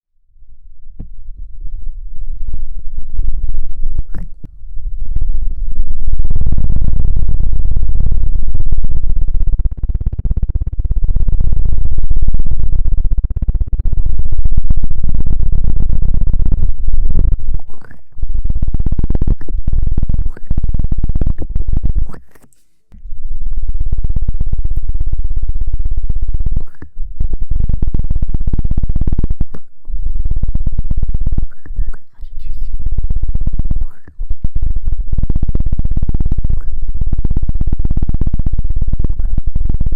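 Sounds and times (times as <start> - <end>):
deep scratching on microphone: 0.7 - 7.4, 12.3 - 39.9.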